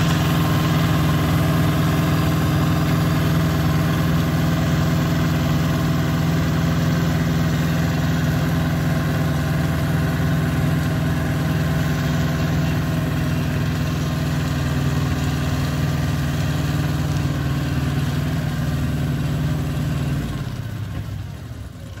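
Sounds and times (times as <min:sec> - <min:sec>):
rotary tiller churning soil: 0:00.0 - 0:22.0
tractor diesel engine running: 0:00.0 - 0:22.0.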